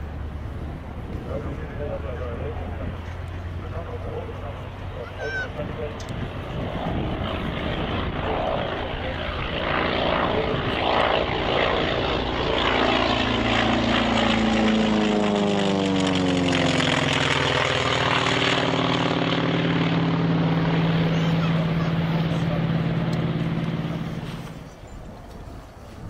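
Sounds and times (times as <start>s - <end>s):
propeller plane low pass: 0.0s - 26.0s.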